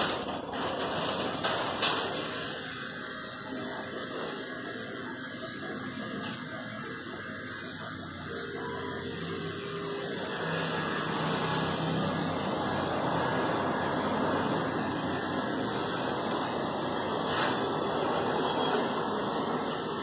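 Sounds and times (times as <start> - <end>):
electric dog clipper buzzing: 0.0 - 20.0.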